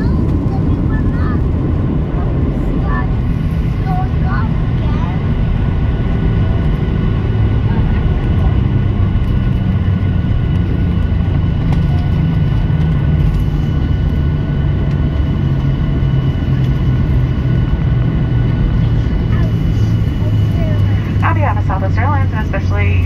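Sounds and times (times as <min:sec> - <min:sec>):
airplane cabin rumble: 0:00.0 - 0:23.0
thin steady whines: 0:00.0 - 0:23.0.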